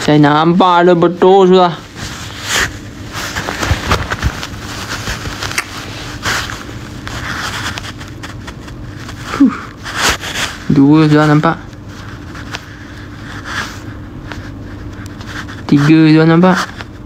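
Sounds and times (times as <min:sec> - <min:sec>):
rustling and scraping on microphone: 0:00.0 - 0:17.0.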